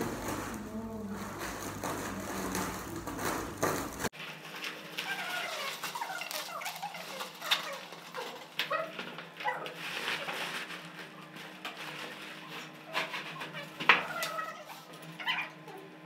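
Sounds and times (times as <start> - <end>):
plastic rubbing squeaks: 0.0 - 4.1, 4.9 - 15.6
plastic and bubble wrap crinkling: 0.0 - 15.5.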